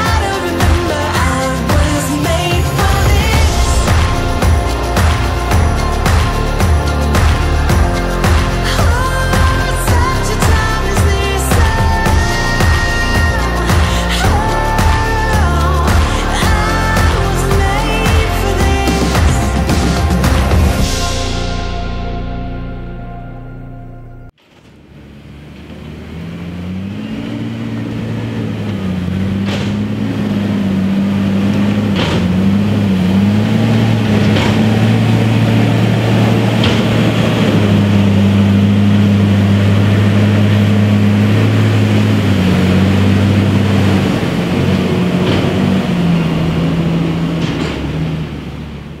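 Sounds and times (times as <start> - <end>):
diesel engine working: 0.0 - 49.0.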